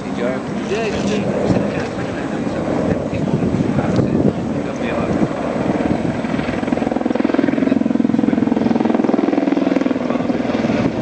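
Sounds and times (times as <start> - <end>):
helicopter hum: 0.0 - 11.0
helicopter rotor beating: 0.0 - 11.0.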